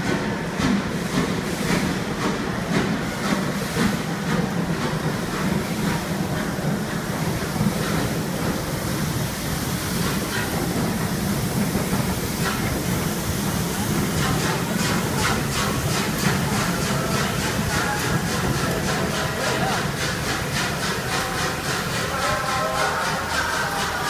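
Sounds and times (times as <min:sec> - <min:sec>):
steam locomotive running slowly: 0:00.0 - 0:24.0.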